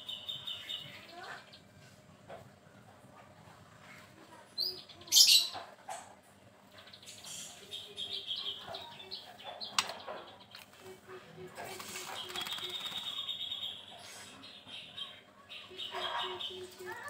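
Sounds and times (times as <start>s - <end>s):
songbird chirps: 0.0s - 17.0s.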